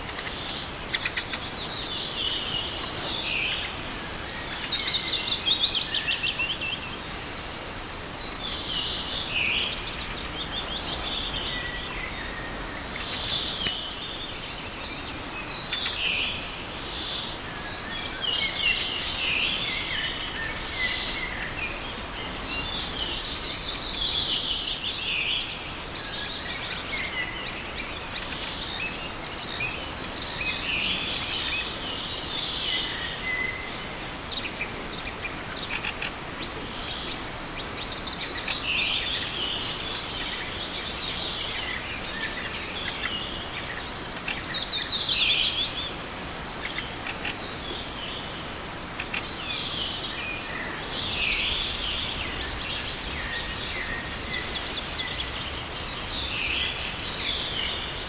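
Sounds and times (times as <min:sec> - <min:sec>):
river rushing: 0:00.0 - 0:58.0
songbirds singing: 0:00.0 - 0:58.0.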